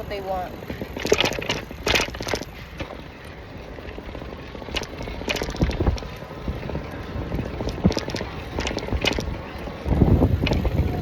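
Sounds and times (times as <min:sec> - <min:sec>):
bike rattling and clicking: 0:00.0 - 0:11.0
road noise rumble: 0:00.0 - 0:11.0.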